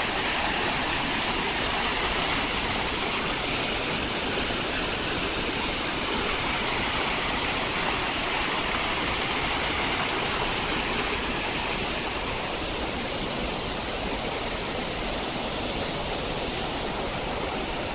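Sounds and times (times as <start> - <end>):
water rushing over rocks: 0.0 - 17.9.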